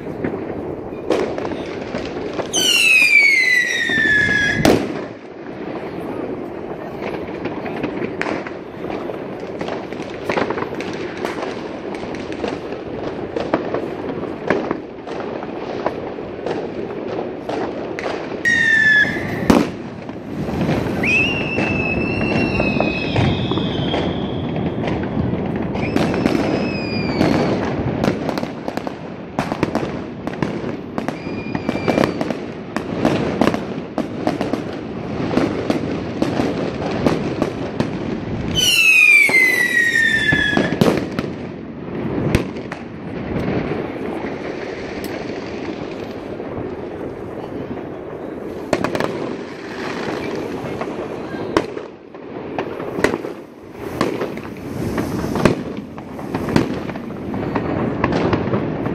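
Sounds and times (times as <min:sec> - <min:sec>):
fireworks bangs and crackles: 0:00.0 - 0:58.9
whistling fireworks: 0:00.0 - 0:58.9.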